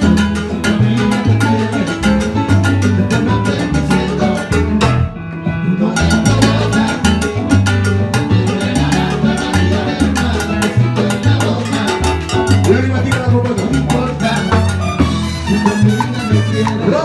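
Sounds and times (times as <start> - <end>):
electric upright bass line: 0.0 - 17.0
live latin band playing: 0.0 - 17.0.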